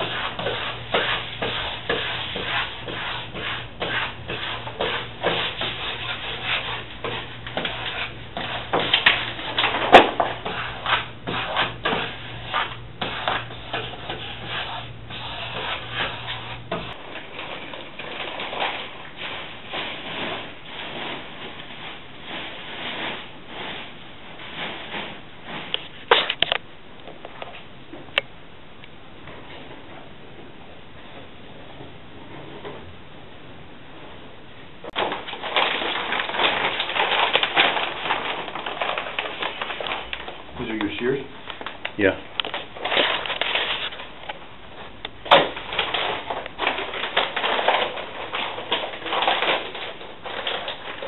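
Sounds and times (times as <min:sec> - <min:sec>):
rubbing and scraping on wall: 0:00.0 - 0:26.6, 0:34.8 - 0:51.0.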